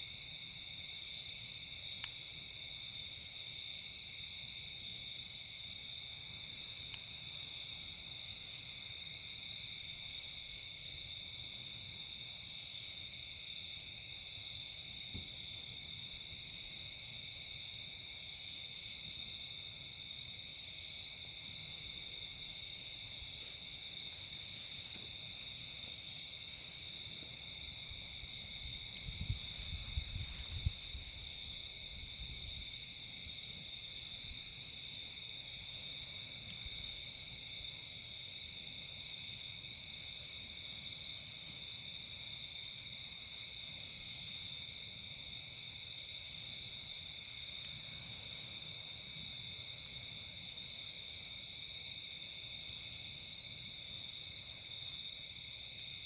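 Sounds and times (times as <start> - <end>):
crickets chirping: 0.0 - 56.0
high insect call: 0.0 - 56.0.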